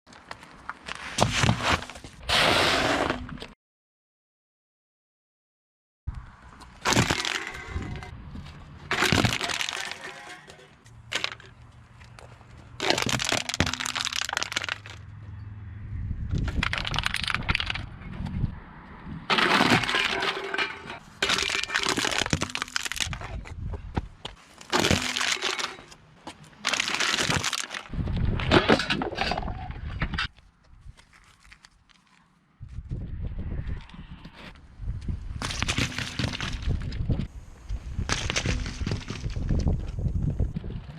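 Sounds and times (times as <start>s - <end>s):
objects crunching under car tyre: 0.1s - 3.5s, 6.5s - 15.1s, 16.3s - 18.5s, 19.1s - 33.0s, 34.3s - 40.9s.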